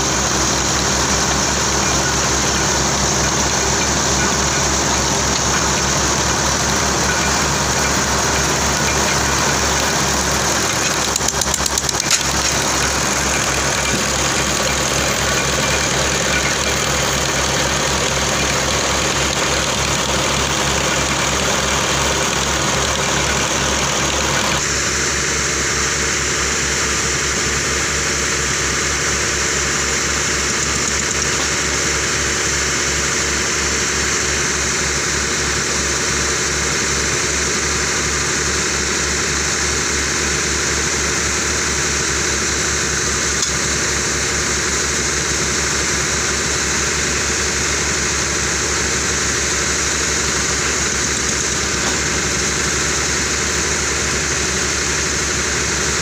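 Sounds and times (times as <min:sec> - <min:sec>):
machine chugging: 0:00.0 - 0:56.0.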